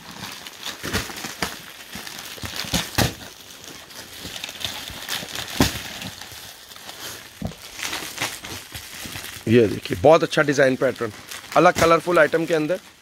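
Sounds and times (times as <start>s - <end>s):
fabric and packaging crinkling: 0.0s - 13.0s.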